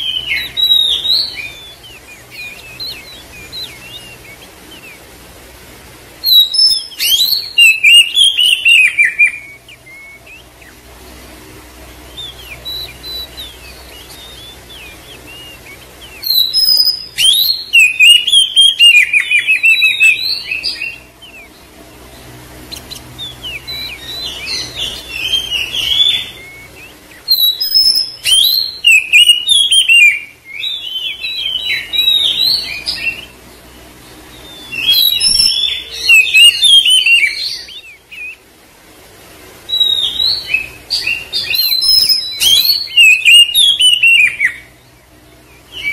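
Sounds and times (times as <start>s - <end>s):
songbird whistling and chattering: 0.0s - 5.2s, 6.2s - 10.9s, 11.9s - 33.4s, 34.1s - 38.4s, 39.7s - 45.9s.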